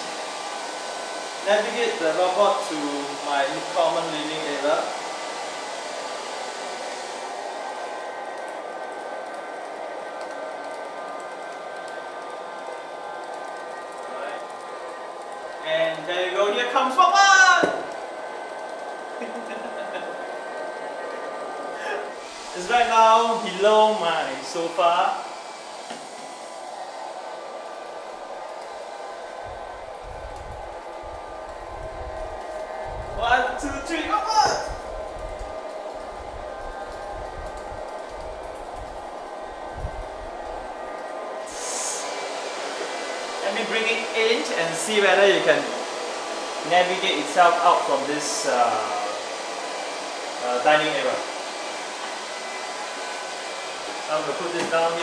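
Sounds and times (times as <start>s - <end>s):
robot vacuum cleaner whirring: 0.0s - 55.0s.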